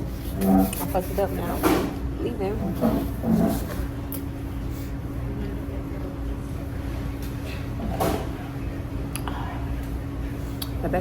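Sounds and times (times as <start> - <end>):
constant hum: 0.0 - 11.0.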